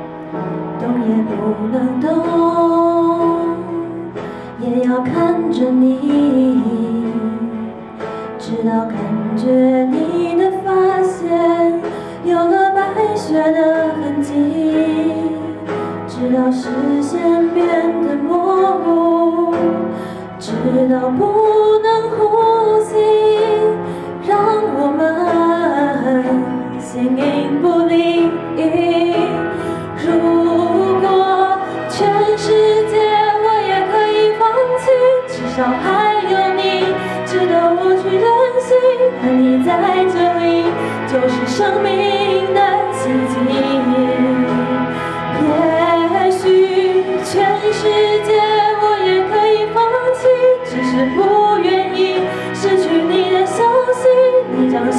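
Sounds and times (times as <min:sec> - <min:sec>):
karaoke backing track: 0:00.0 - 0:54.9
woman singing pop ballad: 0:00.4 - 0:54.9.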